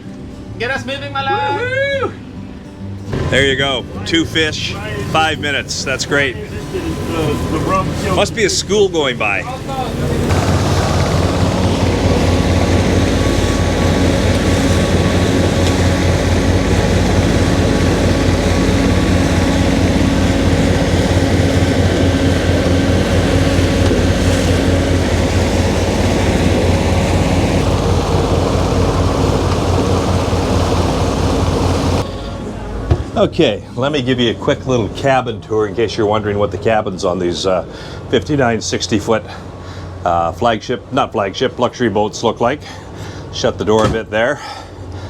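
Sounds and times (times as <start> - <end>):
boat engine pulsing drone: 2.2 - 43.7.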